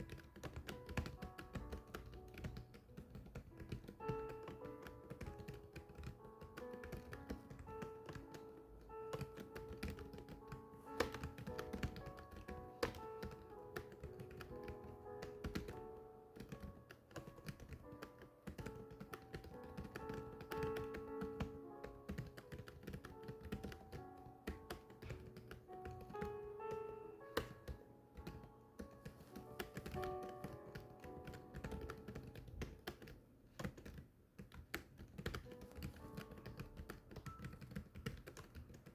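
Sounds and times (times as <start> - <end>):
keyboard typing clicks: 0.0 - 38.9
soft background music: 0.0 - 38.9.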